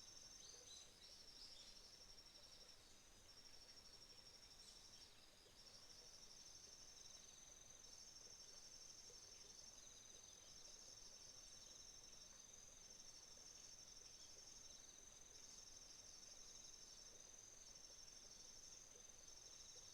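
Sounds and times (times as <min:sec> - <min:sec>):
crickets chirping: 0:00.0 - 0:19.9.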